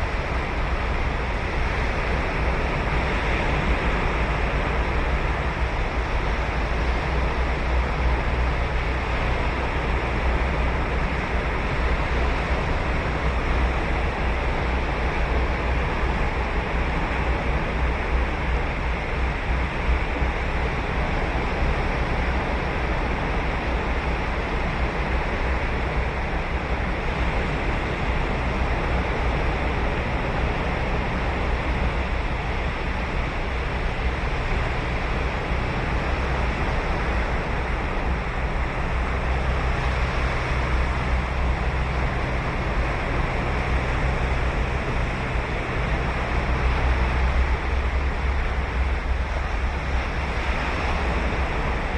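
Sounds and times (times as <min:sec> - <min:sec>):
ocean surf breaking on beach: 0:00.0 - 0:51.9
wind rumble on microphone: 0:00.0 - 0:51.9.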